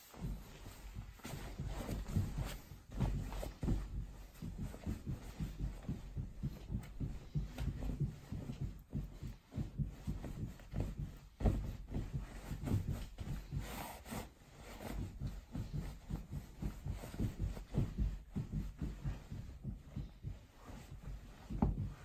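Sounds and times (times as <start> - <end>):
duvet rustling: 0.0 - 22.0
feet thudding on mattress: 0.0 - 22.0.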